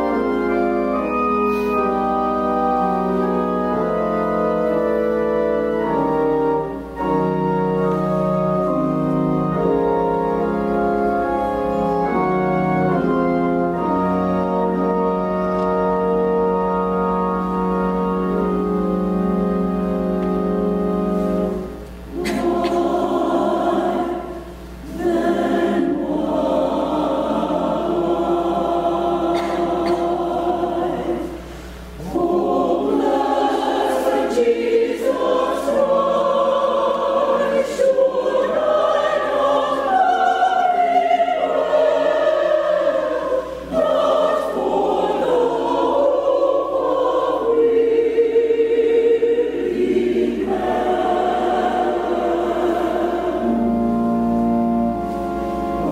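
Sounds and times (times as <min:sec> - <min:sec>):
church choir singing: 0:00.0 - 0:55.9.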